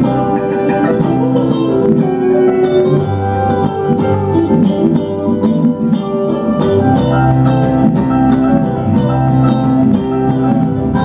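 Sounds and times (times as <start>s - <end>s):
electric guitar picking quick notes: 0.0s - 11.0s
low bass line: 0.0s - 11.0s
sustained keyboard chords: 0.0s - 11.0s.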